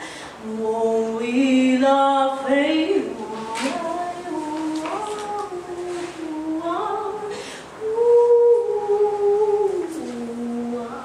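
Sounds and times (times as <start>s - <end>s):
woman singing long notes: 0.0s - 11.0s.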